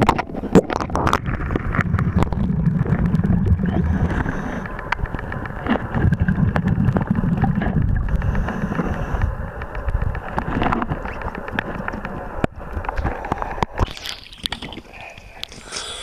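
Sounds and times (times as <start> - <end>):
sharp underwater clicks: 0.0 - 16.0
underwater churning and bubbling: 0.0 - 16.0.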